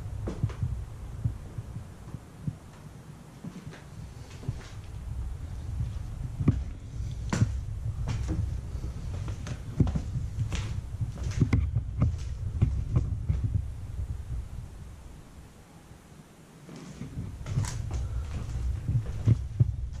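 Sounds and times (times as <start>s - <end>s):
low steady rumble: 0.0s - 20.0s
footsteps: 0.2s - 13.7s, 16.7s - 20.0s.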